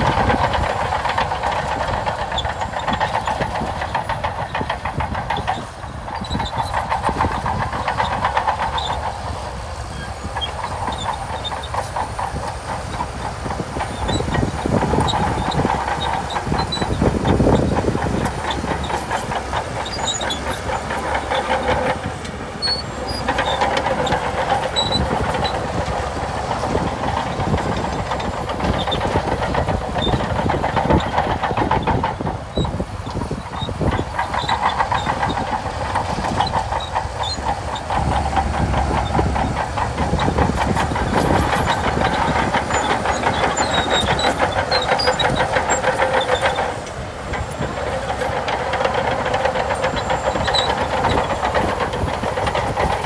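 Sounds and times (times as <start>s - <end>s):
bulldozer diesel engine under load: 0.0s - 53.0s
steel tracks clattering: 0.0s - 53.0s.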